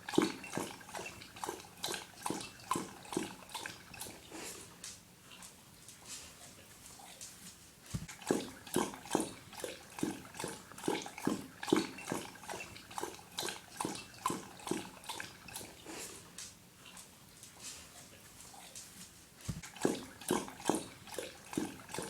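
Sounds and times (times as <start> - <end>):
dog lapping water: 0.0 - 6.8, 7.8 - 18.8, 19.4 - 22.0.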